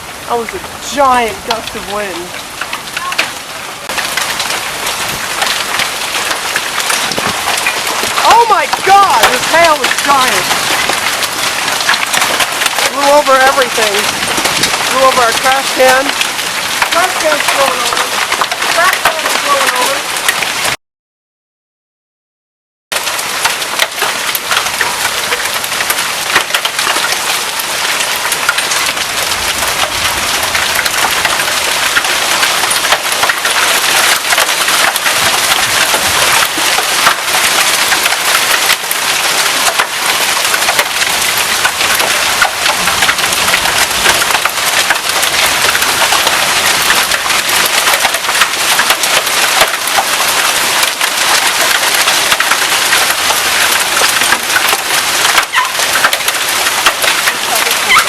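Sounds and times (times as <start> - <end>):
hailstones striking: 0.0 - 20.8, 22.9 - 58.0
heavy rain: 0.0 - 20.8, 22.9 - 58.0.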